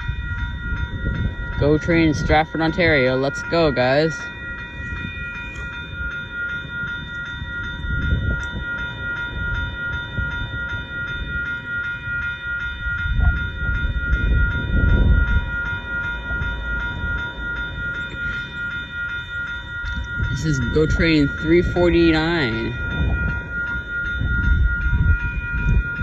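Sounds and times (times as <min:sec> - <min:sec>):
high ringing with regular beat: 0:00.0 - 0:26.0
train rumbling on rails: 0:00.0 - 0:26.0.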